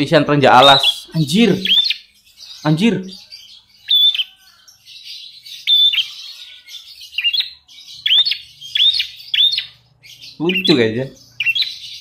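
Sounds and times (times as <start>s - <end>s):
bird chirping high notes: 0.0s - 12.0s.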